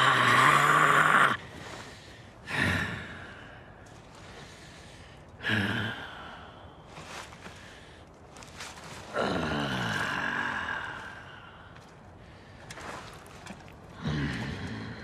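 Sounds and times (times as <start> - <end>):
quiet breathing: 1.4 - 15.0.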